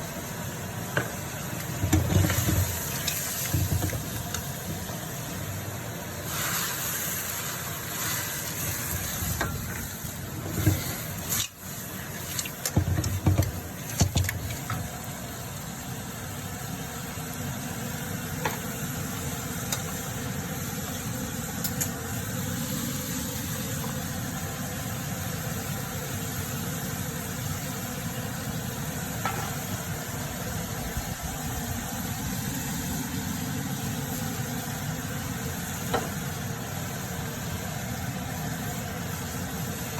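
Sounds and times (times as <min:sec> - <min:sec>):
seafood sizzling in a wok: 0:00.0 - 0:39.9.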